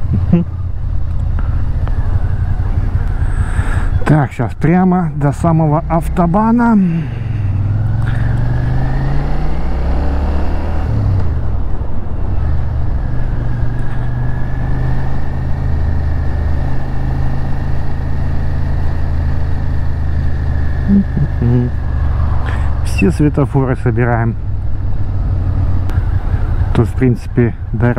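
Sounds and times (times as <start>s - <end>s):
motorcycle engine revving: 0.0s - 27.9s
wind and road noise: 0.0s - 27.9s.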